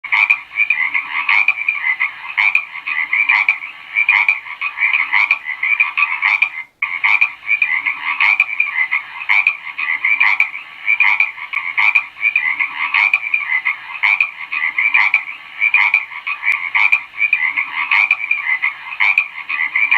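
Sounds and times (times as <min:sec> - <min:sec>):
frogs croaking: 0:00.0 - 0:19.9.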